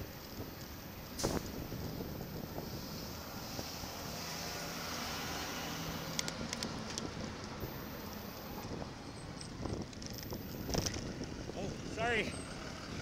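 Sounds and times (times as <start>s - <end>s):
road rumble: 0.0s - 13.0s
wind rushing over microphone: 0.0s - 13.0s.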